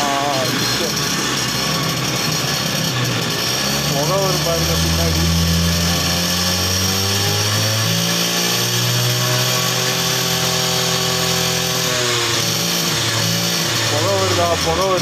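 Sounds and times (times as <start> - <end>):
small motorbike engine running: 0.0 - 15.0.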